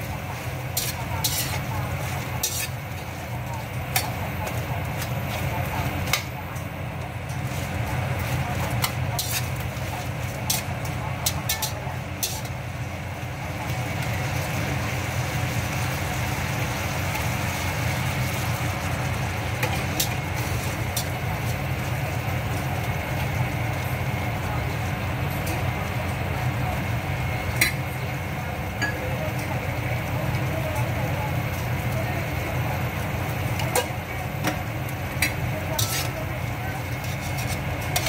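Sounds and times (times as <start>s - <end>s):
stir-frying in a wok: 0.0s - 38.0s.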